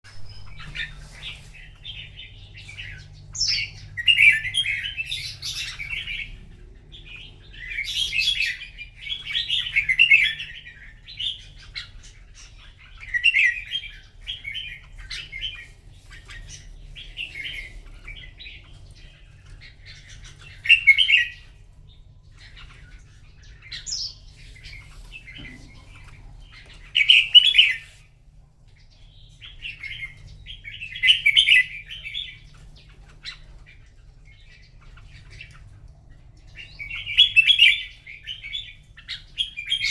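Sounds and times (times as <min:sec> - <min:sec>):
bulbuls chirping: 0:00.1 - 0:39.9.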